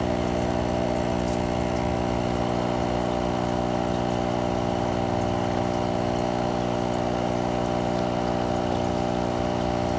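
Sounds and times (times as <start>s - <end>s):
small motor humming: 0.0s - 9.9s.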